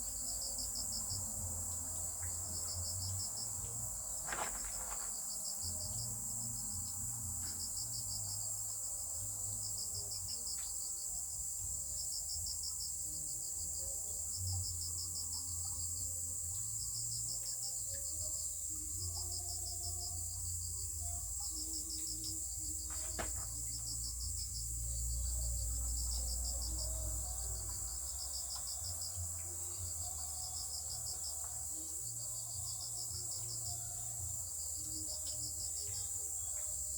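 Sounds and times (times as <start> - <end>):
crickets chirping: 0.0 - 36.9
high-pitched insect trill: 0.0 - 36.9.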